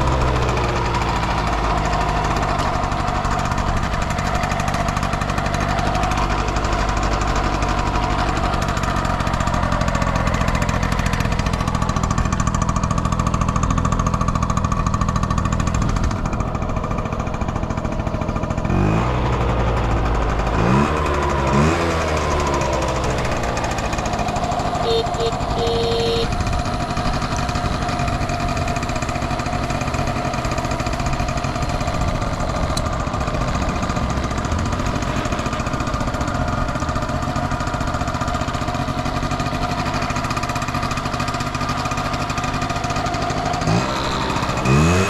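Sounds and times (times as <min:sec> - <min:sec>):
scooter engine revving: 0:00.0 - 0:45.0.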